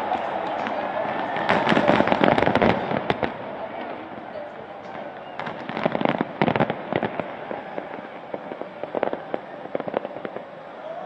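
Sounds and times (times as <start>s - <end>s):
fireworks popping and cracking: 0.0s - 10.7s.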